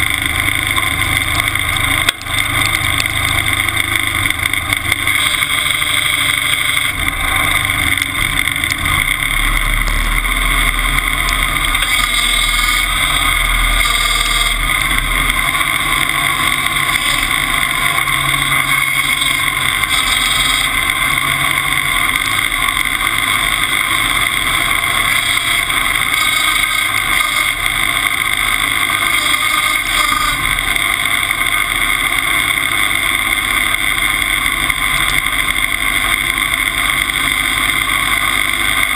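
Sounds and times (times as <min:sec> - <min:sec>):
log skidder engine running: 0:00.0 - 0:38.9.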